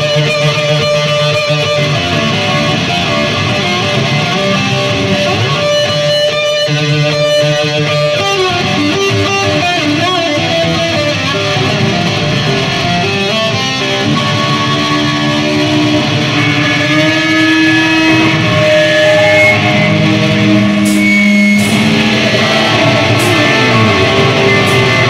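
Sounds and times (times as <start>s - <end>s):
electric guitar: 0.0s - 25.0s
heavy metal band playing live: 0.0s - 25.0s.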